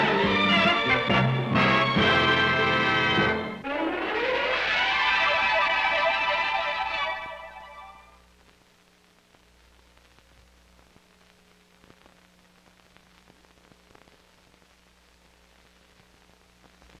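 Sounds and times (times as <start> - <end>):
faint tape hiss: 0.0 - 17.0.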